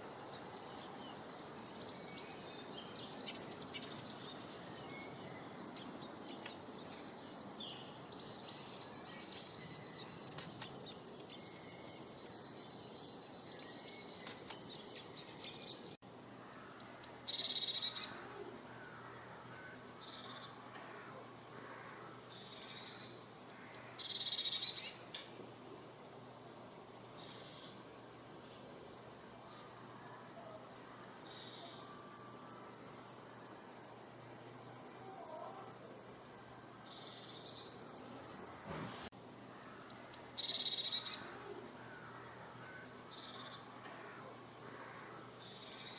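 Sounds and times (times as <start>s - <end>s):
many birds chirping: 0.0s - 25.2s, 26.2s - 45.9s.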